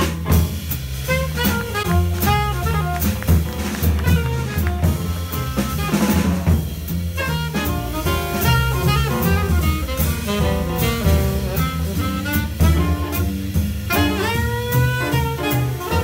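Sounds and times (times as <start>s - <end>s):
drum kit with cymbals: 0.0s - 16.0s
grand piano: 0.0s - 16.0s
plucked double bass: 0.0s - 16.0s
saxophone melody: 1.1s - 6.3s, 7.2s - 16.0s.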